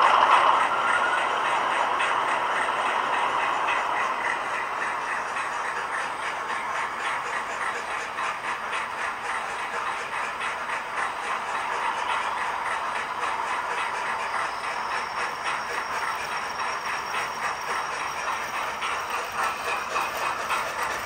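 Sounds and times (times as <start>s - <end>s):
model locomotive running: 0.0s - 21.0s.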